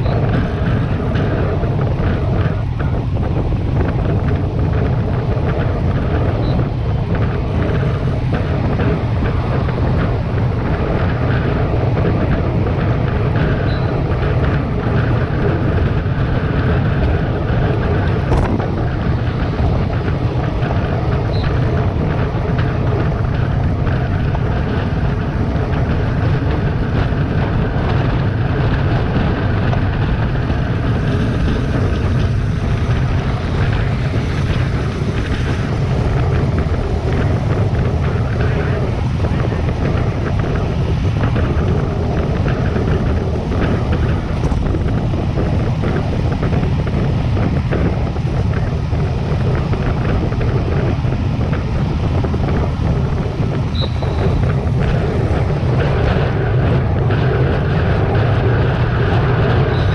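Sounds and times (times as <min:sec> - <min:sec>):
bicycle tyre noise on road: 0:00.0 - 0:59.9
wind rushing over microphone: 0:00.0 - 0:59.9.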